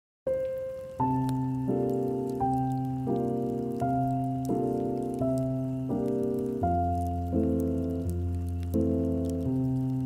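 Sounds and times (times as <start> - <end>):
soft piano music: 0.3 - 10.0.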